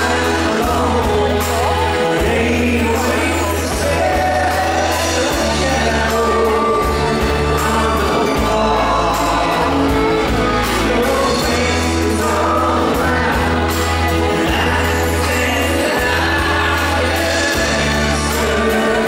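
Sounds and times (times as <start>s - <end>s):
bass guitar: 0.0s - 19.0s
keyboard: 0.0s - 19.0s
strummed acoustic guitars: 0.0s - 19.0s
voices singing together: 0.0s - 19.0s.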